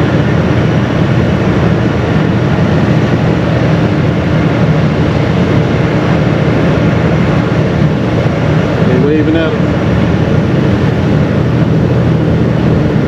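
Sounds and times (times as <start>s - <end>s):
ferry rumble and rush: 0.0s - 13.0s.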